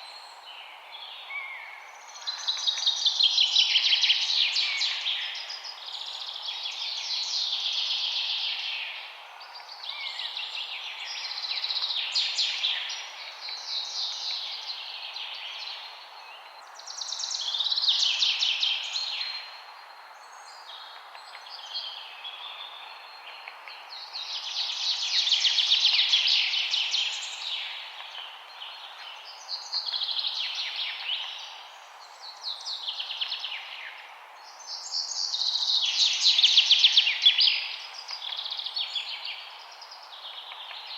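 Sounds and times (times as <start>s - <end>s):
songbirds chirping: 0.0s - 40.9s
steady background hiss: 0.0s - 40.9s.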